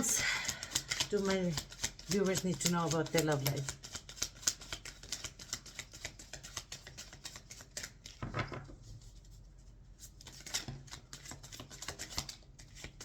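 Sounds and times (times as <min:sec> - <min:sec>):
cards being shuffled: 0:00.0 - 0:09.2, 0:10.0 - 0:13.0.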